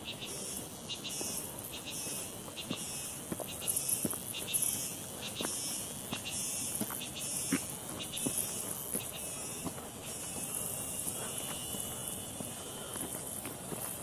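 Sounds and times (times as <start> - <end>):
insects singing in pulsing waves: 0.0 - 14.0
rapid insect chirring: 0.0 - 14.0.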